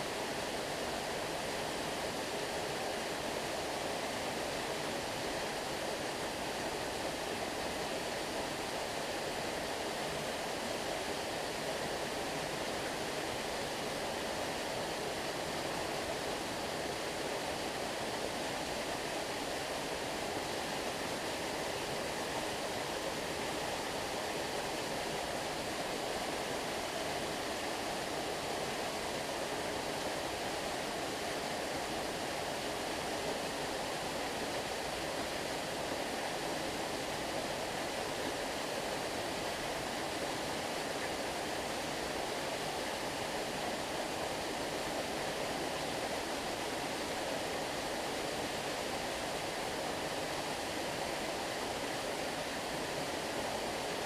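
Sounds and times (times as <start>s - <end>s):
flowing stream water: 0.0s - 54.0s.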